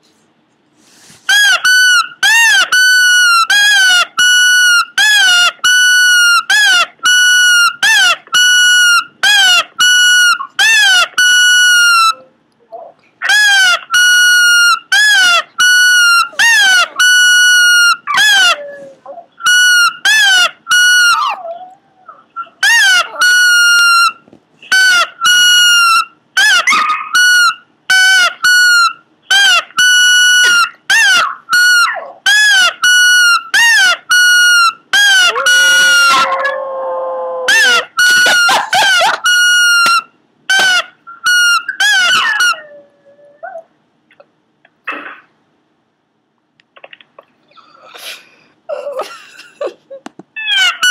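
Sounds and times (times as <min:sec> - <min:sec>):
small dog high-pitched cries: 0:01.4 - 0:12.3, 0:13.2 - 0:36.6, 0:37.4 - 0:43.7, 0:50.4 - 0:50.9.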